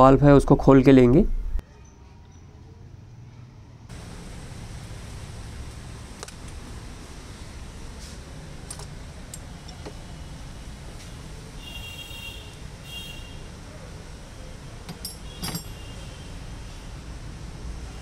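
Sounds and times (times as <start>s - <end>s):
workshop hiss and hum: 2.7s - 18.0s.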